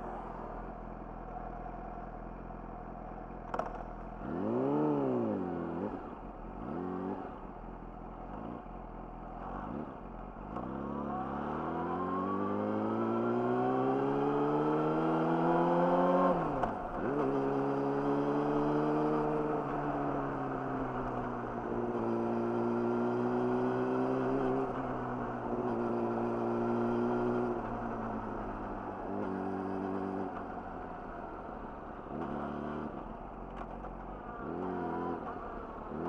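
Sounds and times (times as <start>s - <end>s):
motorcycle engine revving: 3.5s - 7.4s, 10.5s - 36.0s.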